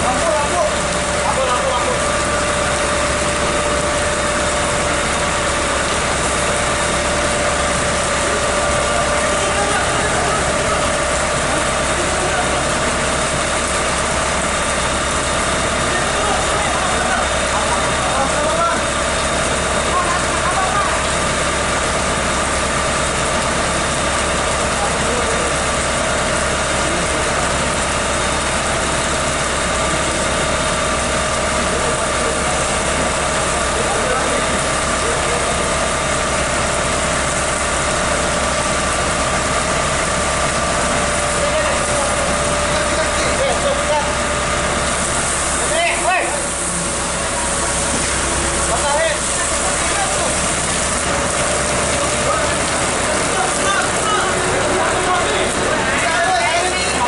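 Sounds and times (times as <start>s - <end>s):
engine hum: 0.0s - 57.0s
flame torch roaring: 0.0s - 57.0s.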